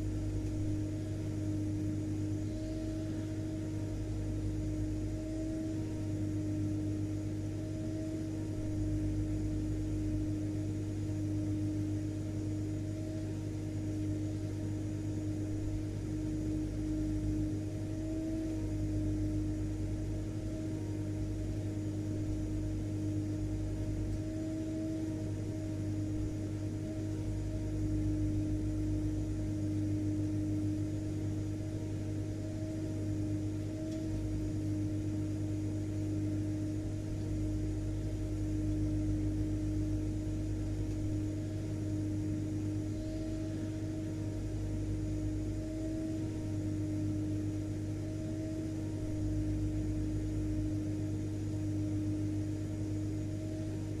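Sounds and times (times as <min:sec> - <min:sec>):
vacuum cleaner running: 0:00.0 - 0:19.7, 0:24.1 - 0:54.0.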